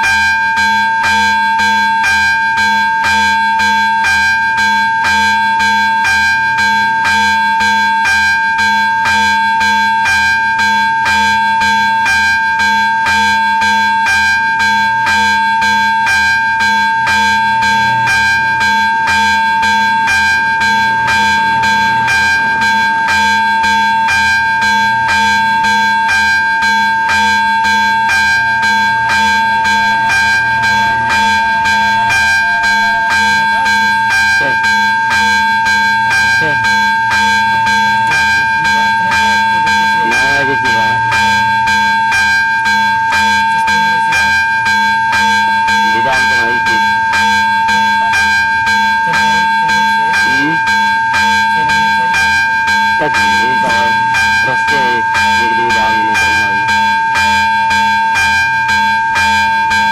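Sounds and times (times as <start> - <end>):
level crossing bell ringing: 0.0 - 59.9.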